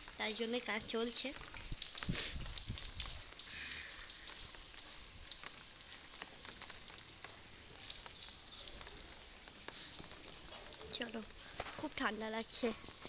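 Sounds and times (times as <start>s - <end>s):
rain on concrete: 0.0s - 13.0s.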